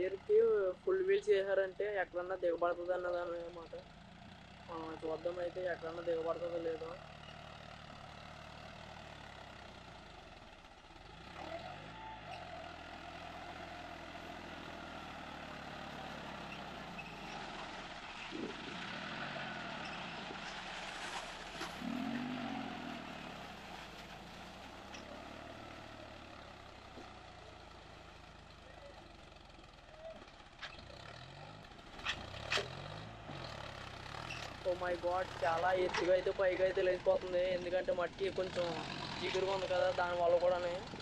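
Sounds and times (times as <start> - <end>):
tractor diesel engine working: 0.0 - 41.0.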